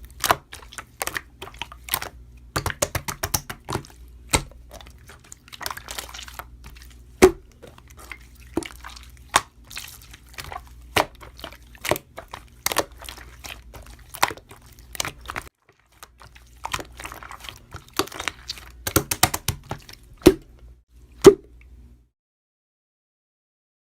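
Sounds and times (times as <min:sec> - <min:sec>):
low steady hum: 0:00.0 - 0:22.1.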